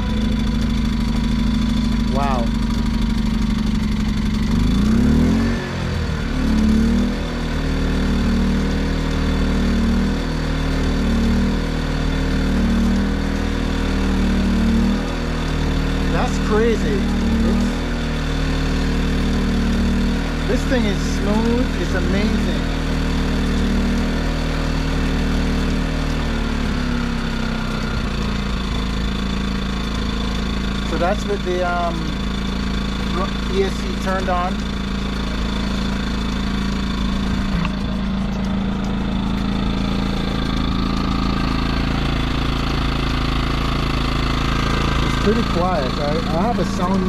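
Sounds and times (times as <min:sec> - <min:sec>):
generator engine running: 0:00.0 - 0:47.0.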